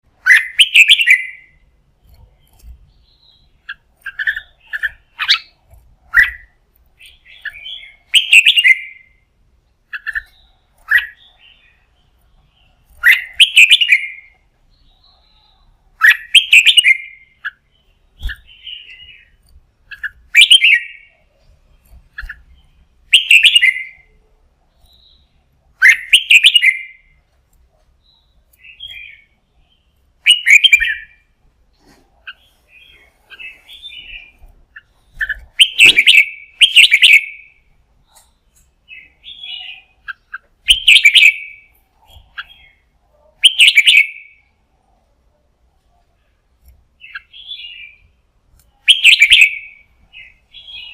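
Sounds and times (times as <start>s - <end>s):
bulbul singing: 0.1s - 27.3s, 28.0s - 31.4s, 32.3s - 44.6s, 46.2s - 50.9s
soft bird chattering: 0.2s - 27.2s, 28.0s - 44.6s, 46.0s - 50.9s.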